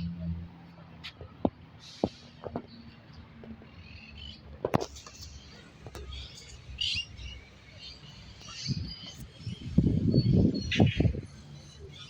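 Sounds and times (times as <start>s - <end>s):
birds chirping: 1.0s - 12.0s.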